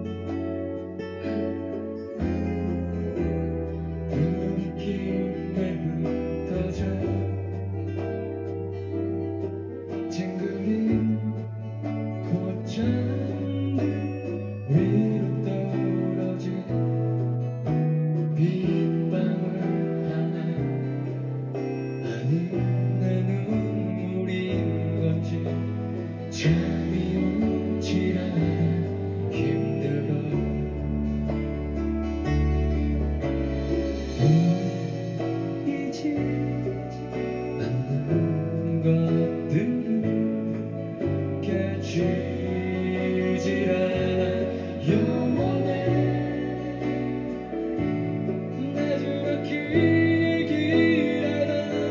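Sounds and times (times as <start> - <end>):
live pop ballad band: 0.0 - 51.9
person singing: 0.0 - 51.9.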